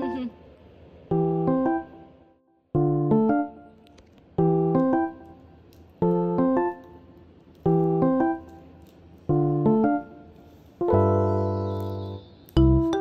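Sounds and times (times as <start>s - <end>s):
piano music: 1.1s - 13.0s.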